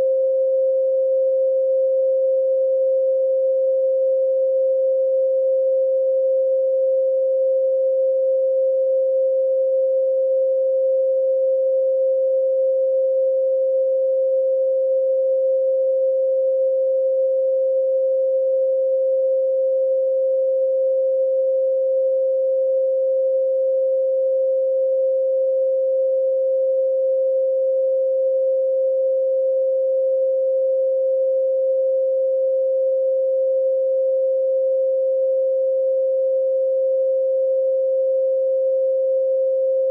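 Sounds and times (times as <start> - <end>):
steady pure sine tone: 0.0 - 39.9.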